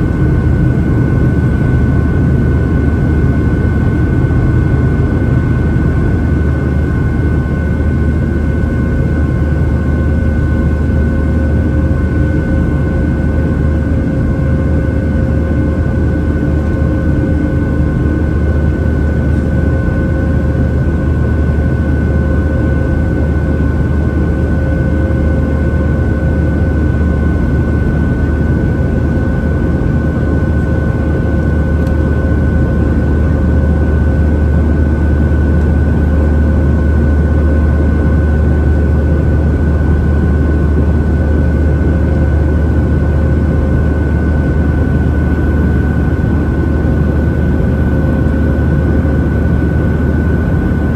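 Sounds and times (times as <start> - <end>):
jet engines droning in cabin: 0.0 - 50.9.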